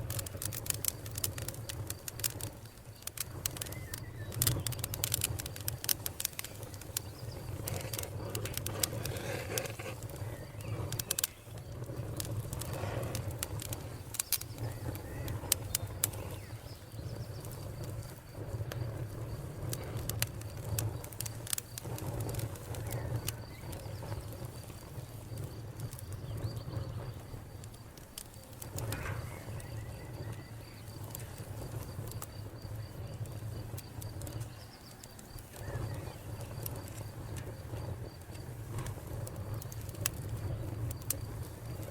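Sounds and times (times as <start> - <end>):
low fire rumble: 0.0 - 41.9
wood fire crackling and popping: 0.0 - 41.9.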